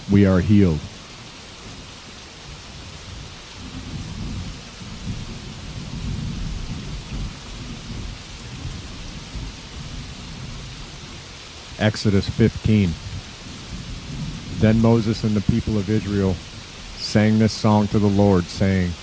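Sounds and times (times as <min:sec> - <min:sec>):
rain hiss: 0:00.0 - 0:19.0
thunder rumbling: 0:00.0 - 0:19.0.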